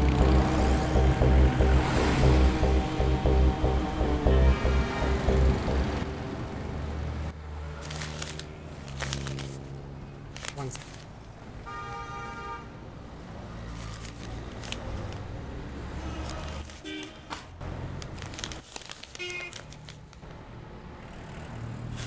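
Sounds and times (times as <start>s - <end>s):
rumble of passing vehicles: 0.0s - 18.6s, 19.5s - 22.0s.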